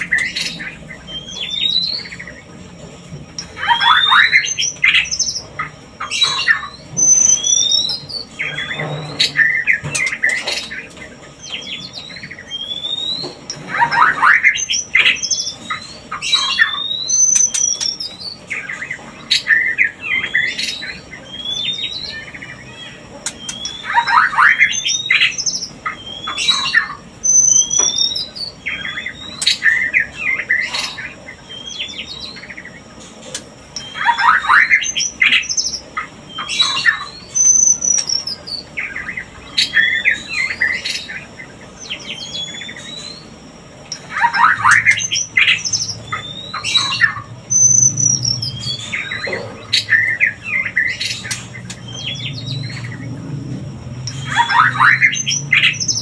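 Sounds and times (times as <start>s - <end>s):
bird whistles and chattering: 0.0s - 2.5s, 3.4s - 43.3s, 43.9s - 53.1s, 54.1s - 56.0s.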